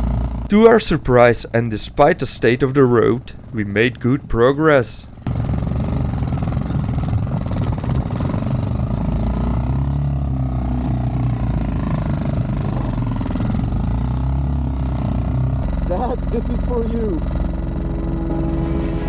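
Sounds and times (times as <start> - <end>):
mini motorcycle engine running: 0.0 - 18.8.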